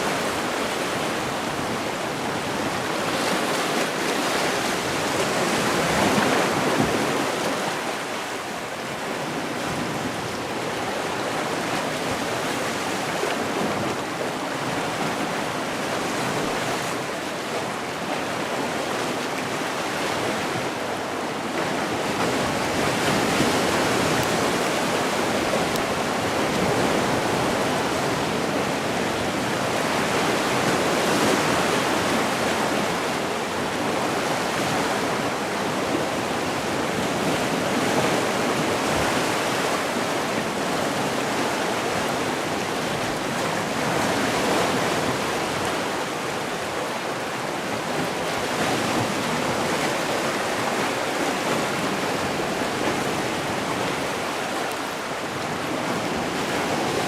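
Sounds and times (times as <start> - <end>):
sea surf washing in: 0.0 - 57.0.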